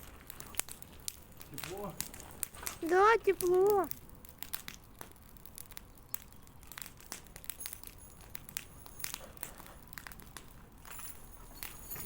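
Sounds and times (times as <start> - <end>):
bonfire crackling and popping: 0.0 - 12.0.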